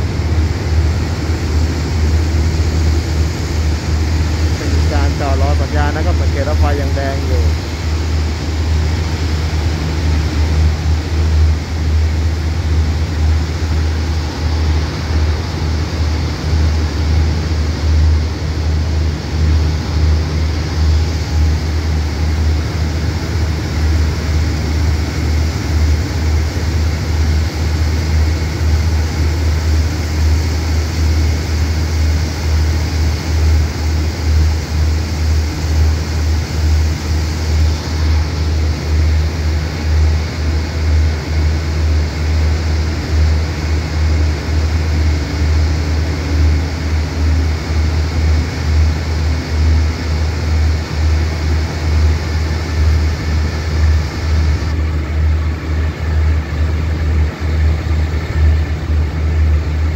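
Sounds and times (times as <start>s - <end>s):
train engine idling: 0.0s - 59.9s.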